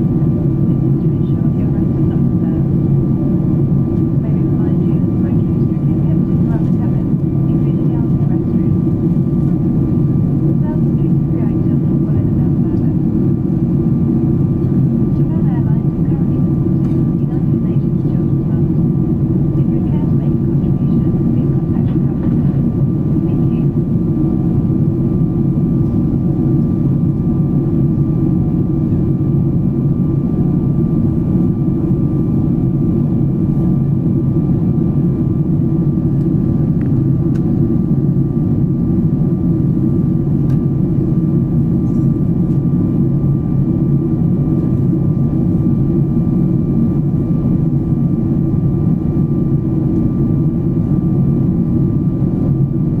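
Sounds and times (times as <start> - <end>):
faint steady whine: 0.0 - 53.0
low rumble of jet engines: 0.0 - 53.0.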